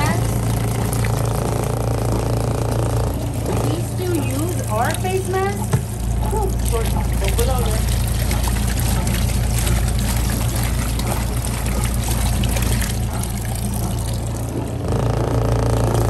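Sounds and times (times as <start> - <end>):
washing machine motor hum: 0.0 - 16.0
water splashing and churning: 0.0 - 16.0.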